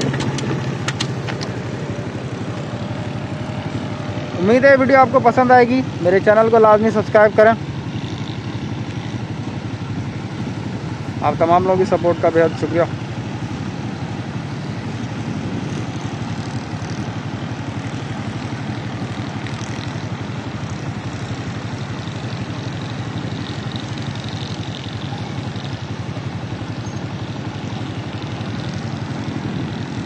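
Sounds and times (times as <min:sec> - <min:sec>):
low engine rumble: 0:00.0 - 0:30.0
traffic noise: 0:00.0 - 0:30.0.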